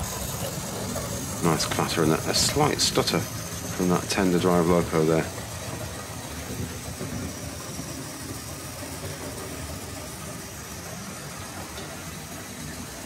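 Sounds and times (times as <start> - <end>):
model train motor hum: 0.0 - 13.0.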